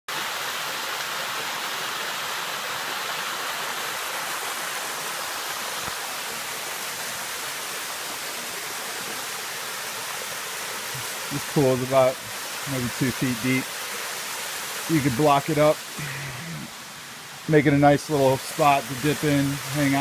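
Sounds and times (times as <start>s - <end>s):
small waterfall rushing: 0.1s - 20.0s.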